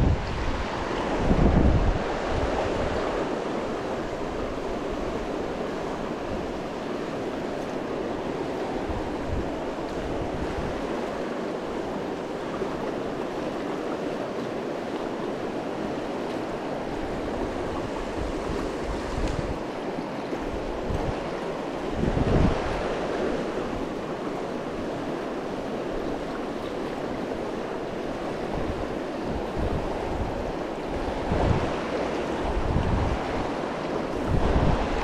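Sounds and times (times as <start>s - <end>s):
river rushing over rocks: 0.0s - 35.0s.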